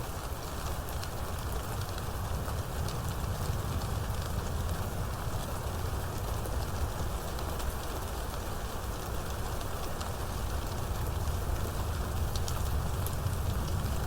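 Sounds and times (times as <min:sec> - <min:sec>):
heavy rain falling: 0:00.1 - 0:14.0.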